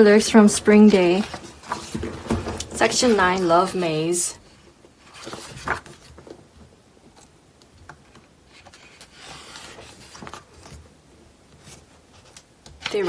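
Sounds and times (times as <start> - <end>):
paper pages rustling: 0.2 - 10.9, 11.5 - 13.0.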